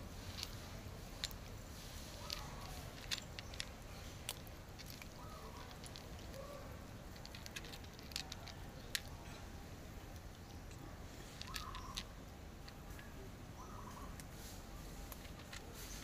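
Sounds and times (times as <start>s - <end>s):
cats crunching dry kibble: 0.0s - 13.3s, 14.2s - 16.0s.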